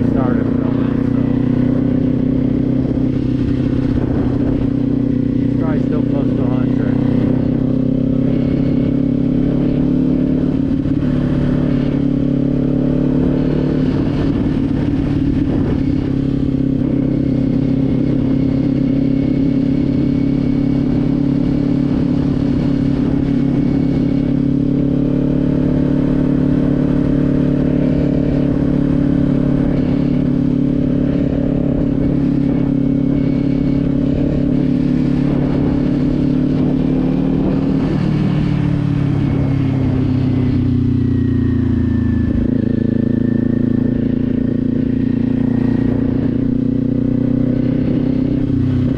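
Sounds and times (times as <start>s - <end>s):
motorcycle engine cruising: 0.0s - 48.9s
wind rushing over microphone: 0.0s - 48.9s.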